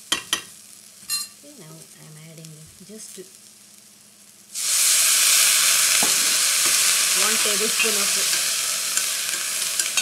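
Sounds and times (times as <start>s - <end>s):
water sizzling in hot pan: 0.0s - 10.0s.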